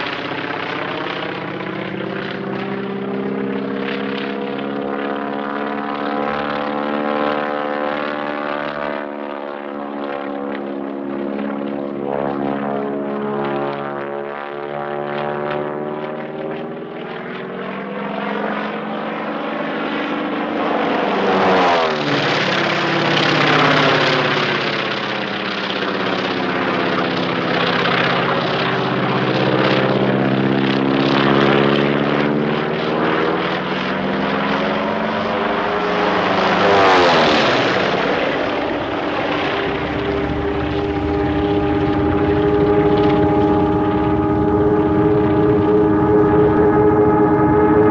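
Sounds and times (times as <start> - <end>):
propeller planes droning: 0.0 - 47.9.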